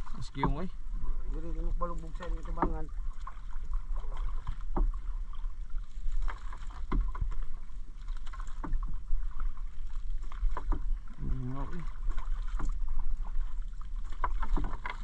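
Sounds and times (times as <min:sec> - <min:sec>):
wet net hauled with splashing: 0:01.4 - 0:15.0.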